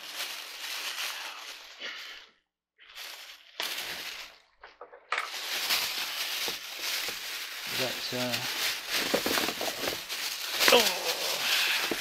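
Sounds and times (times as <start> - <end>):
plastic bag rustling: 0.0 - 2.2, 2.8 - 12.0.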